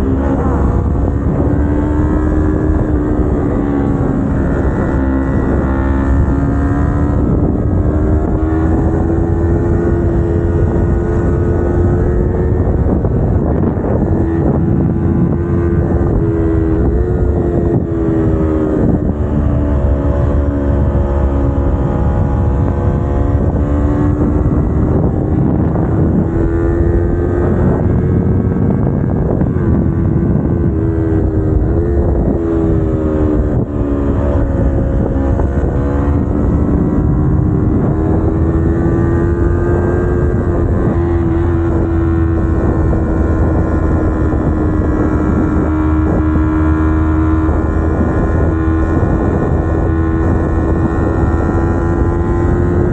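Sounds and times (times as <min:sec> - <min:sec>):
motorcycle engine revving: 0:00.0 - 0:52.9
wind rumble on microphone: 0:00.0 - 0:52.9.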